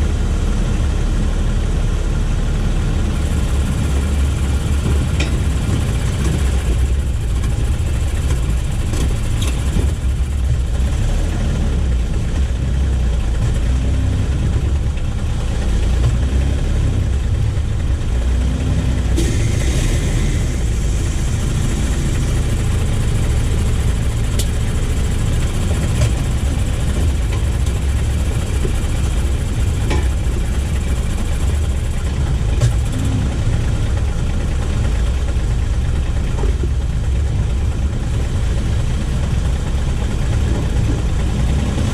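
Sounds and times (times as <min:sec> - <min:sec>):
engine and road rumble: 0:00.0 - 0:41.9.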